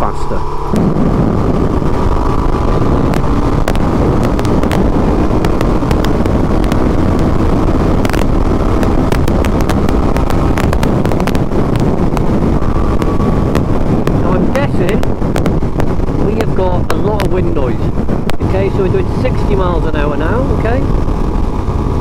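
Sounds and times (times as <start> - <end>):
wind noise inside helmet: 0.0 - 22.0
microphone crackles: 0.6 - 19.6.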